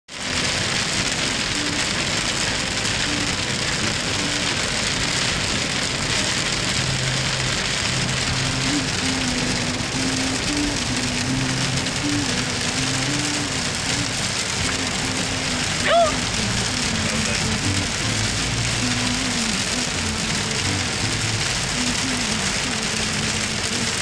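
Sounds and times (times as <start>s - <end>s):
heavy rain on windshield: 0.1s - 24.0s.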